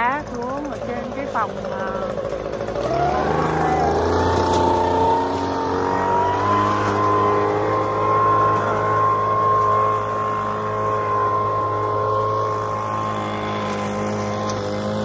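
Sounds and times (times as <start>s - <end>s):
leaf blower revving: 0.0s - 15.0s.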